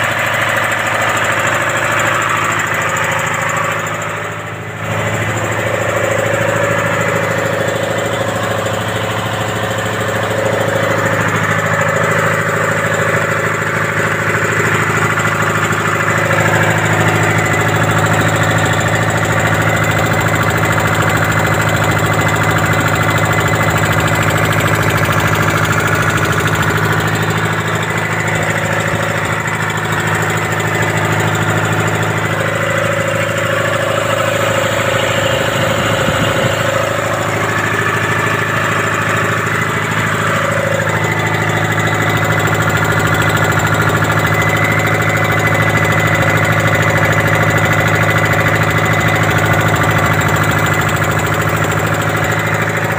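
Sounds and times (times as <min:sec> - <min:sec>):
diesel engine running steadily: 0:00.0 - 0:52.9.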